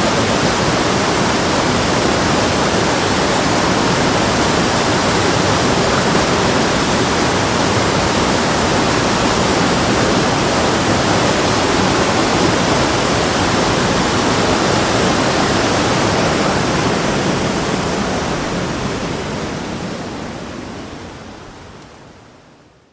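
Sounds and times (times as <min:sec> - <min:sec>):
rushing water roar: 0:00.0 - 0:22.9.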